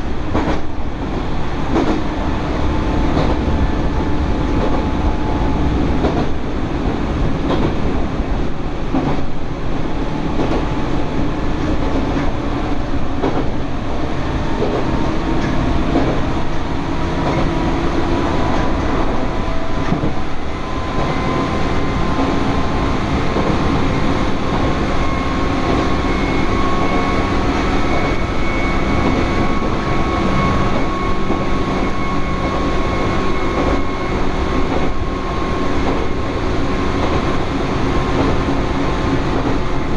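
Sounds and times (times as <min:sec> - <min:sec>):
train rolling on rails: 0:00.0 - 0:39.9.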